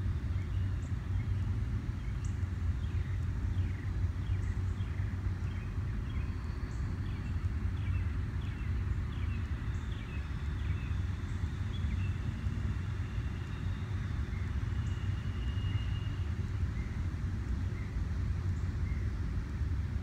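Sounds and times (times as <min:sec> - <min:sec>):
steady low rumble: 0:00.0 - 0:20.0
small birds chirping: 0:00.2 - 0:19.2.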